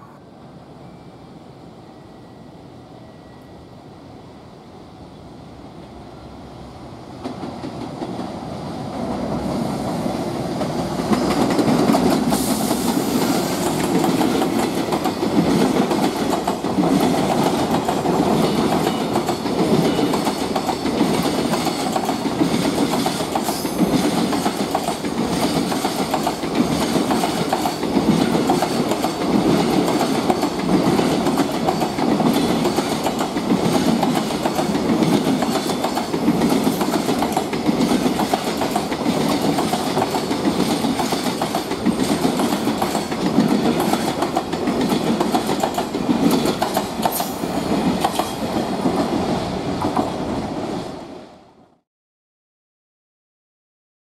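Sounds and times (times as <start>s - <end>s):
electric locomotive passing: 0.0s - 51.6s.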